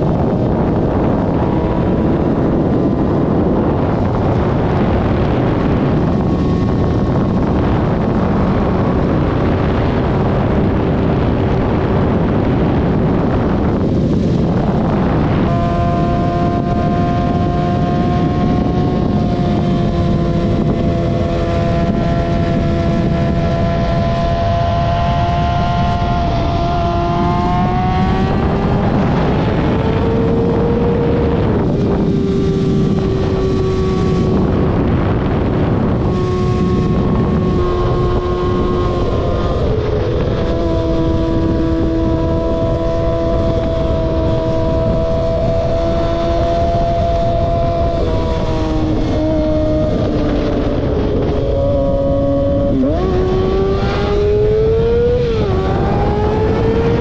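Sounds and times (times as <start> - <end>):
engine revving: 0.0 - 57.0
heavy wind noise: 0.0 - 57.0
road noise: 0.0 - 57.0.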